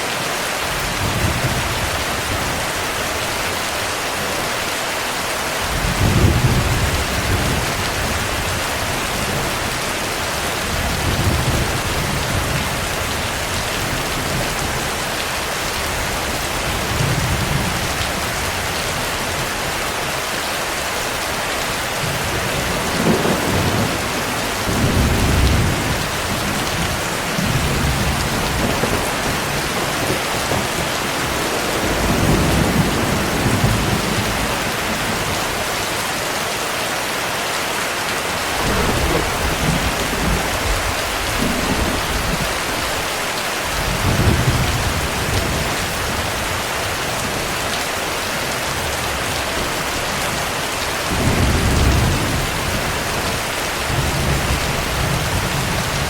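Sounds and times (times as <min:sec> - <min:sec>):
heavy rain falling: 0:00.0 - 0:56.0
thunder rumbling: 0:00.6 - 0:04.5, 0:05.6 - 0:15.0, 0:21.0 - 0:36.1, 0:38.1 - 0:47.8, 0:48.6 - 0:56.0.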